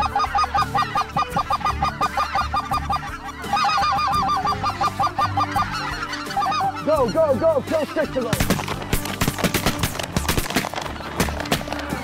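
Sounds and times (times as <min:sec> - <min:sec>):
honking waterfowl calls: 0:00.0 - 0:12.0.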